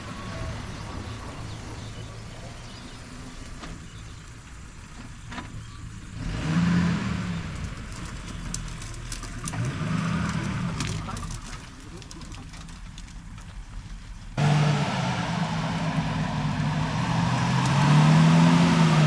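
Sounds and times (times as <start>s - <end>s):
car engine revving off-road: 0.0s - 19.0s.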